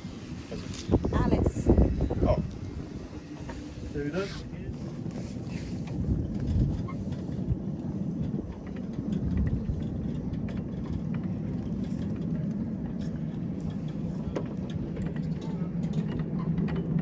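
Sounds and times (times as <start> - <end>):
miniature train rumbling: 0.0 - 17.0.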